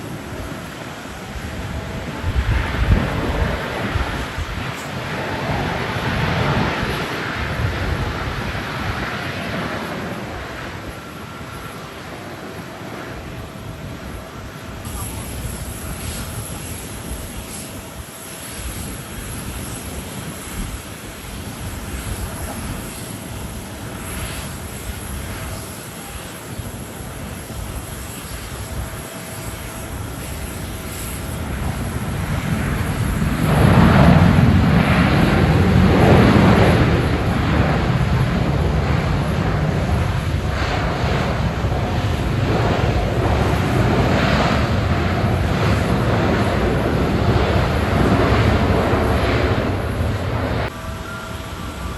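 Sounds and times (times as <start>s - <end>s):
jet engine rumble: 0.0s - 51.9s
strong wind: 0.0s - 51.9s.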